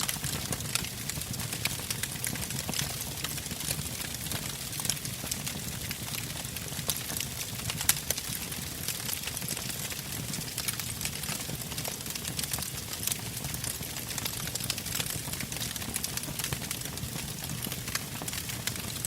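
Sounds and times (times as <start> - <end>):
campfire crackling: 0.0 - 19.0
low rumble of flames: 0.0 - 19.0.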